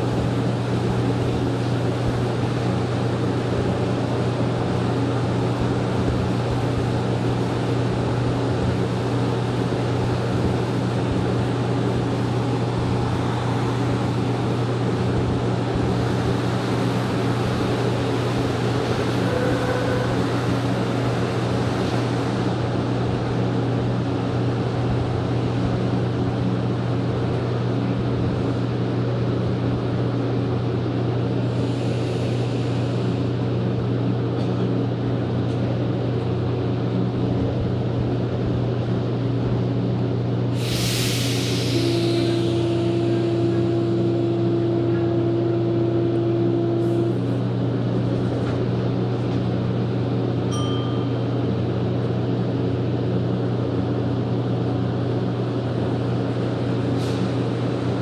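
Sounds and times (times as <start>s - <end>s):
metro train cabin drone: 0.0s - 58.0s.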